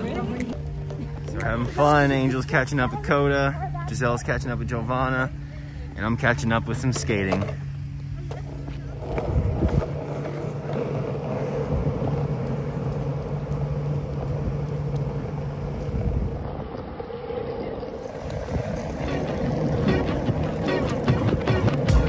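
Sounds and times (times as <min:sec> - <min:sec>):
longboard wheels rolling on asphalt: 0:00.0 - 0:22.0.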